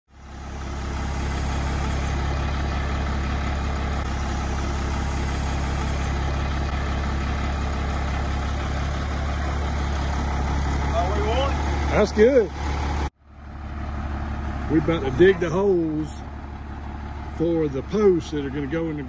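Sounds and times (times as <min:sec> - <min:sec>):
truck engine idling: 0:00.1 - 0:19.0.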